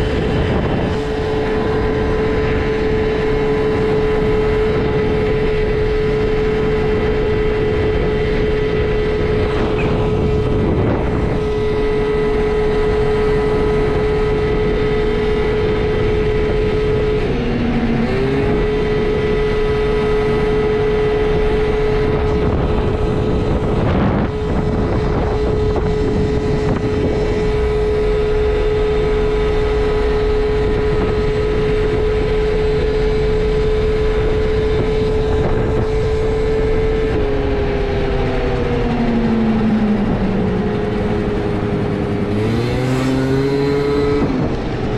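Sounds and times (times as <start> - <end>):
scooter engine running: 0.0 - 44.9.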